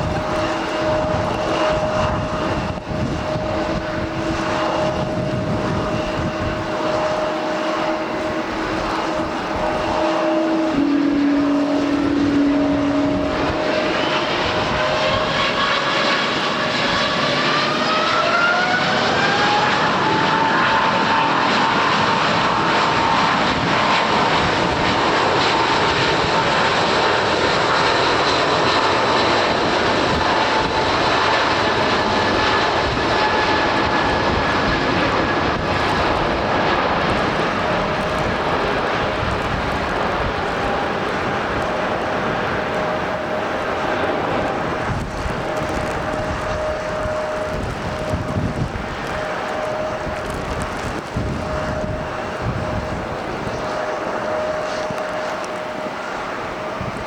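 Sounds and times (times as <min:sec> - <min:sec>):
jet engines whining: 0:00.0 - 0:57.0
loud rushing roar: 0:00.0 - 0:57.0.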